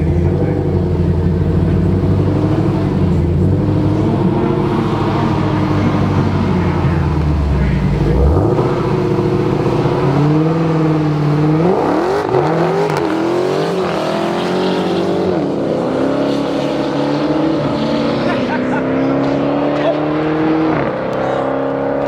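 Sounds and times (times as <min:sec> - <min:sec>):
racing car engine accelerating: 0:00.0 - 0:22.0.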